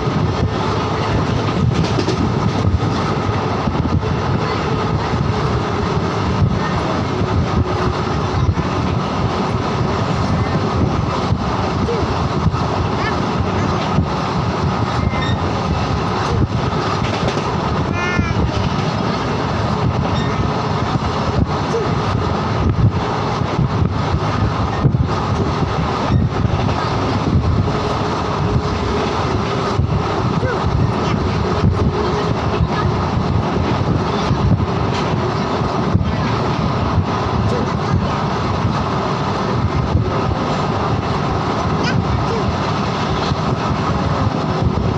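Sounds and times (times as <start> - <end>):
train rumble: 0.0 - 44.9.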